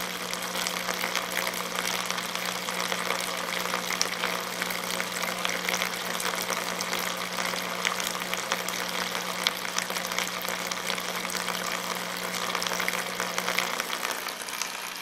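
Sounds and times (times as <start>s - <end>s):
pump humming: 0.0s - 15.0s
water jet hissing and splashing: 0.0s - 15.0s.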